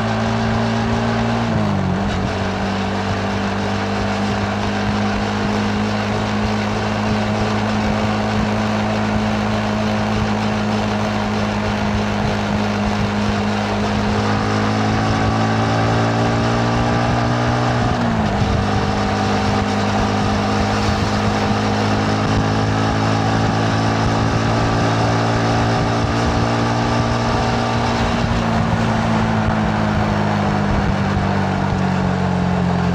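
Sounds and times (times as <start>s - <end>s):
motorcycle engine accelerating: 0.0s - 32.9s
wind and road noise: 0.0s - 32.9s.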